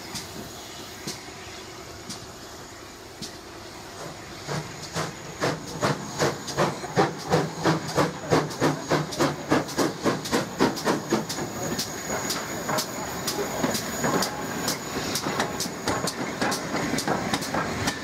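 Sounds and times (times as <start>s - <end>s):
steam locomotive exhaust beats: 0.0s - 18.0s.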